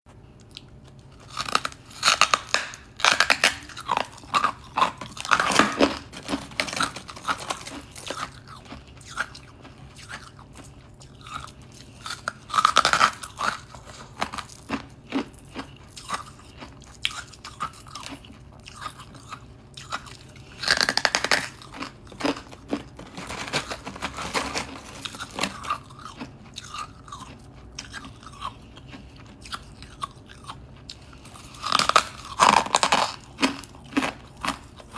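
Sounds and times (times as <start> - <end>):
person crunching frost: 1.1 - 16.7, 20.6 - 30.5, 31.3 - 34.9.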